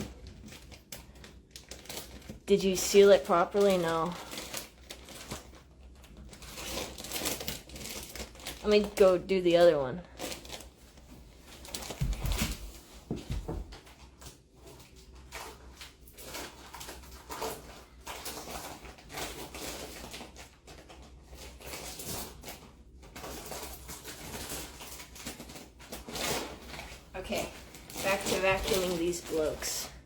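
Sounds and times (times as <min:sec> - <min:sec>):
plastic bags rustling: 0:00.0 - 0:30.0.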